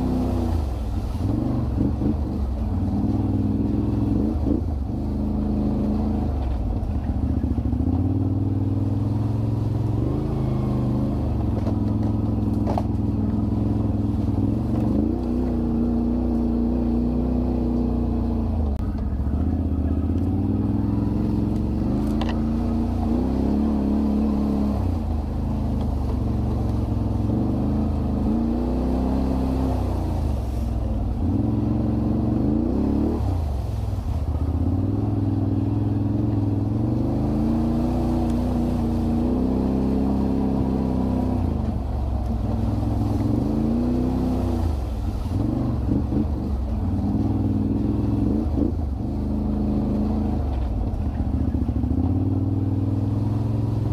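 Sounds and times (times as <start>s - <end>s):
off-road engines revving: 0.0s - 53.9s.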